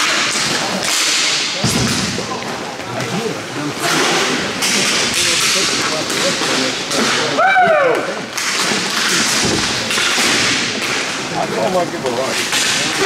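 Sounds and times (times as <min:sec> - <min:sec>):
hockey sticks and puck clacking: 0:00.0 - 0:13.0
players' voices: 0:00.0 - 0:13.0.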